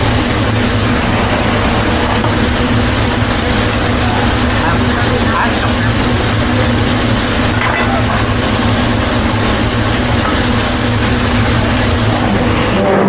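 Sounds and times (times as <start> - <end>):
food sizzling on griddle: 0.0 - 12.5
exhaust hood fan humming: 0.0 - 13.0.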